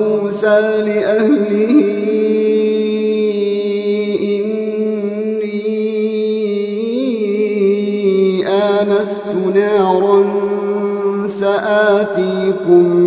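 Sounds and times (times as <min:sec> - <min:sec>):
person chanting recitation: 0:00.0 - 0:13.0.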